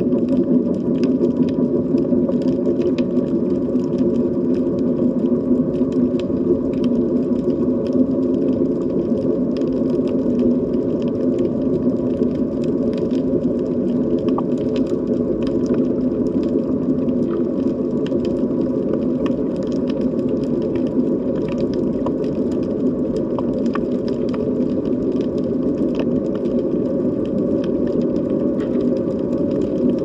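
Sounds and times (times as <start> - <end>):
underwater low drone: 0.0 - 30.0.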